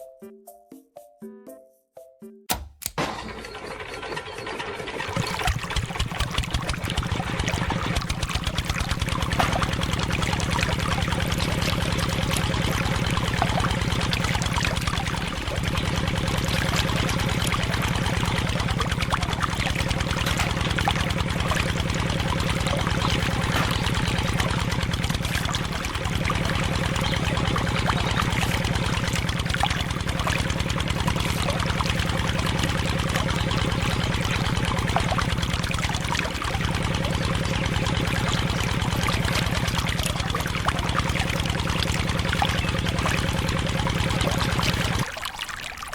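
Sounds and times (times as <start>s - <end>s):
small motor puttering: 2.5s - 45.1s
water pouring and trickling: 4.9s - 45.9s.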